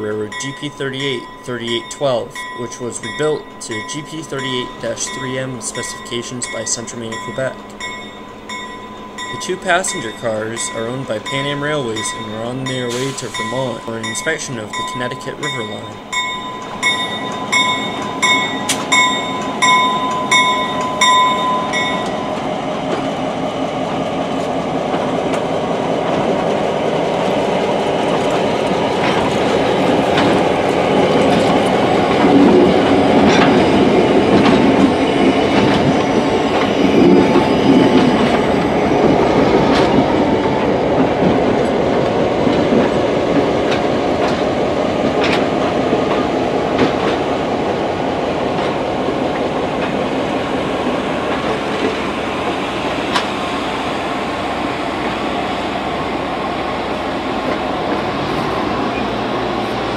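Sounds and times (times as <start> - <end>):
train rolling slowly past: 0.0 - 59.9
wheels clicking over rail joints: 0.0 - 59.9.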